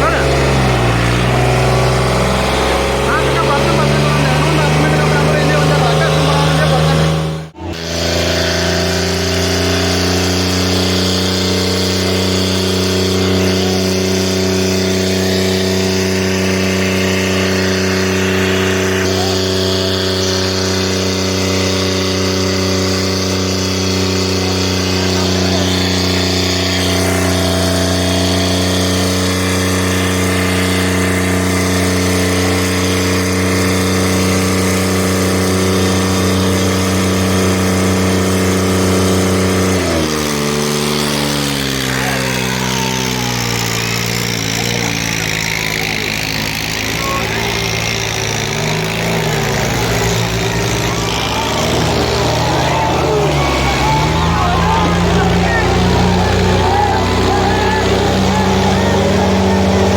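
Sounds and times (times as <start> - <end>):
tractor diesel engine droning: 0.0 - 59.9.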